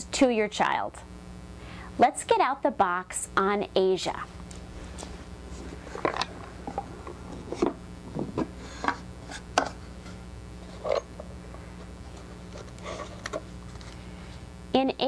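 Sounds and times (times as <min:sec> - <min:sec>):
low hum: 0:00.0 - 0:02.0, 0:03.2 - 0:15.0.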